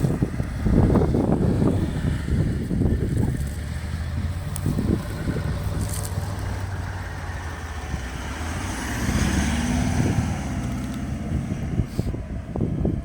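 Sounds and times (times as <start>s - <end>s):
suv engine revving under load: 0.0s - 13.0s.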